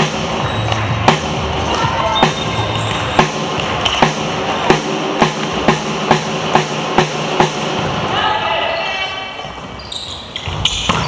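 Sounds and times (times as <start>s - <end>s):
background music: 0.0s - 9.0s
sharp thuds echoing in a hall: 0.0s - 11.0s.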